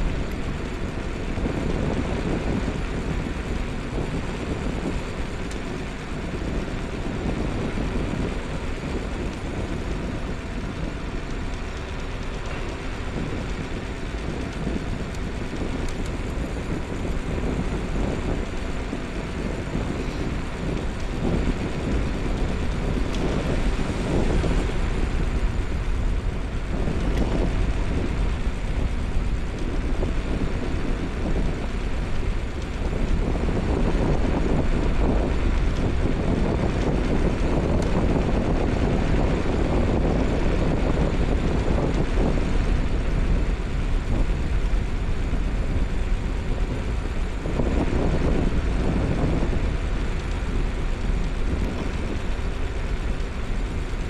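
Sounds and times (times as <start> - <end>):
tyres rumbling on road: 0.0 - 54.0
wind buffeting microphone: 0.0 - 54.0.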